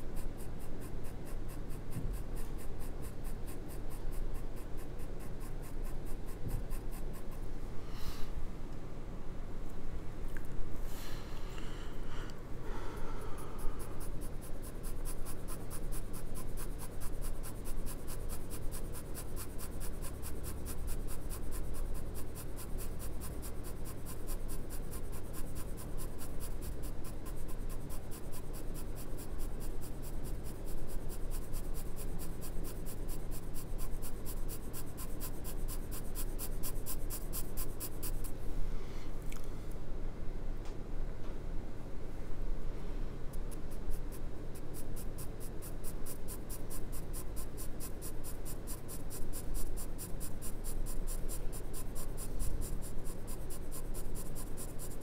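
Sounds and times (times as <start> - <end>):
pencil scratching on paper: 0.0 - 7.5, 13.4 - 38.4, 43.4 - 55.0
steady low hum: 0.0 - 55.0.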